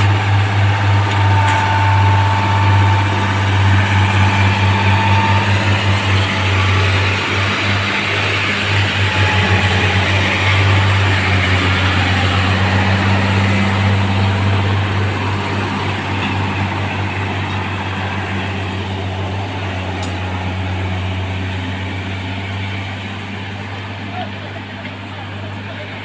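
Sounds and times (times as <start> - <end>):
heavy diesel engine humming: 0.0 - 26.0.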